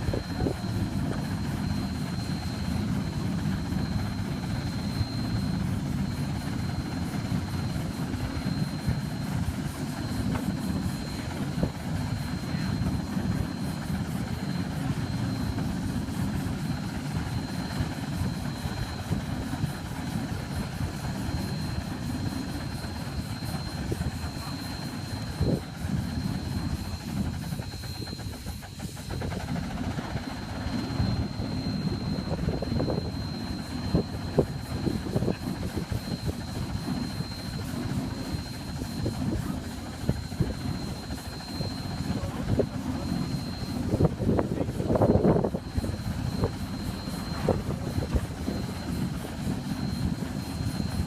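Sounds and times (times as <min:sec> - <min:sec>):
machinery rumbling: 0:00.0 - 0:51.0
thin high whine: 0:00.0 - 0:51.0.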